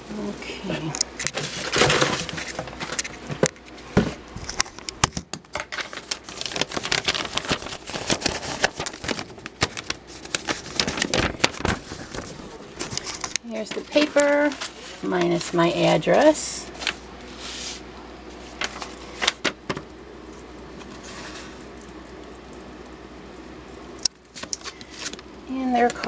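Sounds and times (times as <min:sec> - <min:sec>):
packing paper rustling and crackling: 0:01.1 - 0:22.6, 0:24.2 - 0:25.9.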